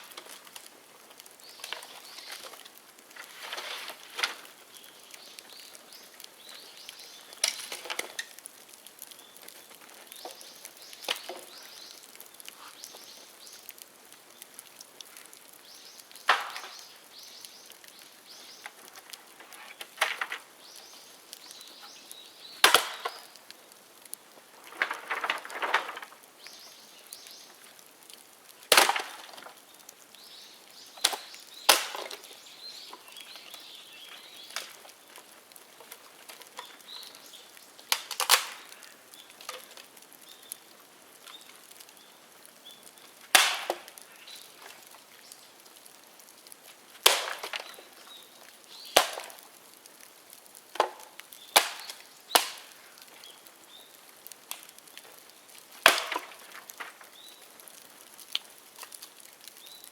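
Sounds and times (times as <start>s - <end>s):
bamboo popping in fire: 0.0s - 59.9s
faint fire crackle: 0.0s - 59.9s.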